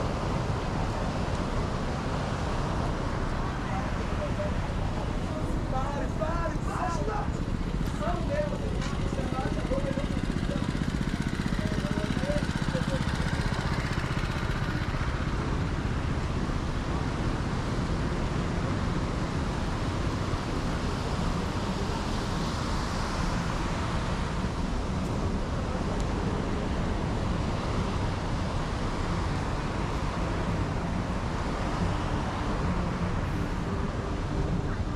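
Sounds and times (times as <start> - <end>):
distant voices: 0.0 - 34.9
passing cars: 0.0 - 34.9.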